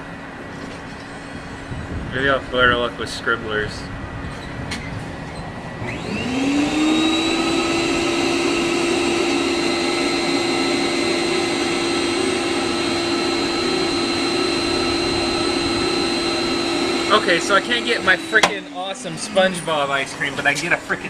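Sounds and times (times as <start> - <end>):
vending machine motor whine: 3.9 - 21.0.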